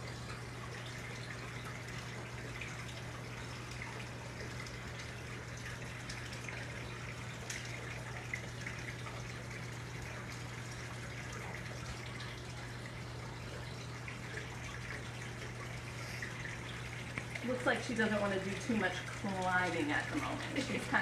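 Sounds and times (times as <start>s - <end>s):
constant low hum: 0.0s - 21.0s
water trickling: 0.0s - 21.0s.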